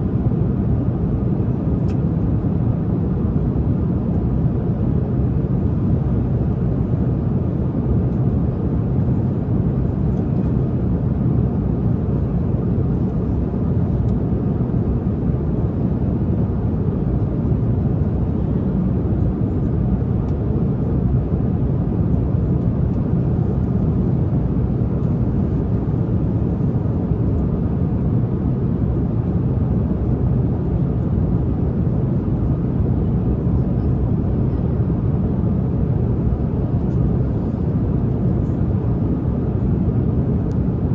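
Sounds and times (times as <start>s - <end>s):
airliner cabin engine rush: 0.0s - 40.9s.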